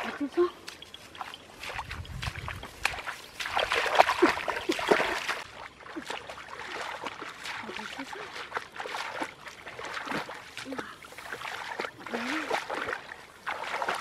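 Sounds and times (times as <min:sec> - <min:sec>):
bare feet splashing in water: 0:00.0 - 0:14.0
water sloshing: 0:00.0 - 0:14.0.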